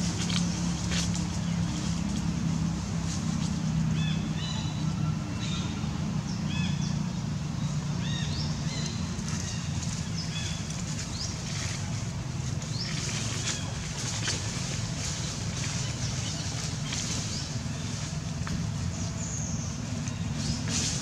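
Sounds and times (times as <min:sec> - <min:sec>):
steady low hum: 0:00.0 - 0:21.0
small birds chirping: 0:03.9 - 0:21.0.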